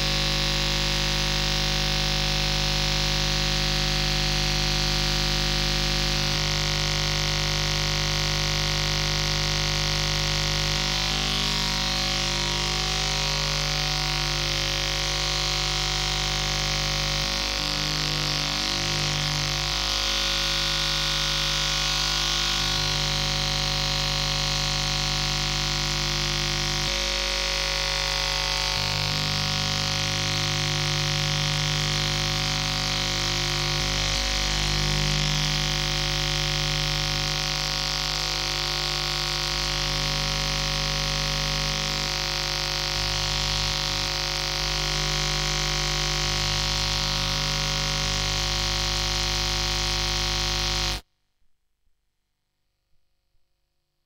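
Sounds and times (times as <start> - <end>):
electronic noise drone: 0.0 - 51.0.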